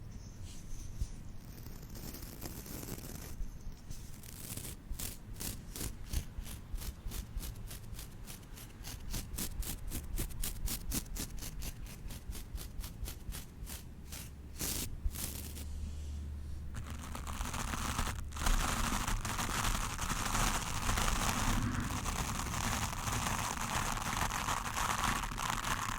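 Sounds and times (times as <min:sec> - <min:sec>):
brush scrubbing across microphone: 0:00.4 - 0:25.9.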